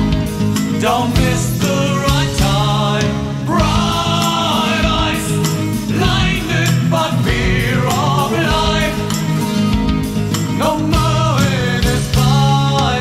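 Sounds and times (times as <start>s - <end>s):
song with singing over beat: 0.0s - 13.0s.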